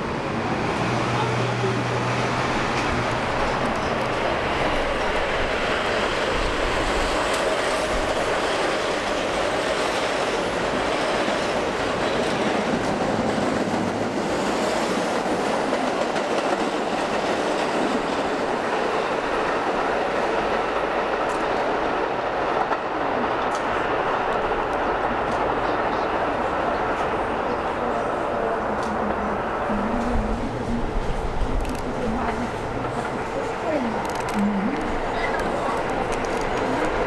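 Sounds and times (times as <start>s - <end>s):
subway train wheels on rail: 0.0s - 37.0s.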